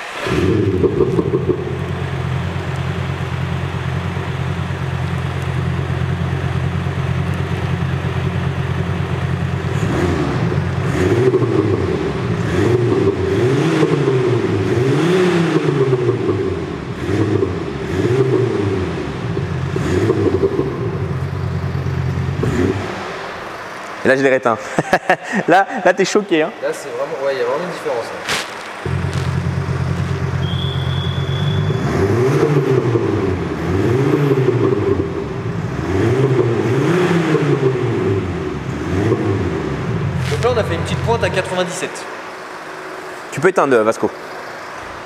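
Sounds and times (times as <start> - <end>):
synthetic engine rumble revving: 0.0 - 23.9, 28.8 - 45.0.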